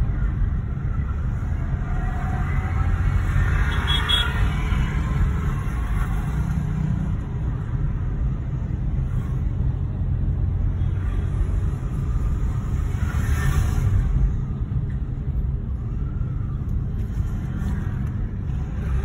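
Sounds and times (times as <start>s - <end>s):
car engine and road noise: 0.0s - 19.0s
surrounding traffic hum: 0.0s - 19.0s.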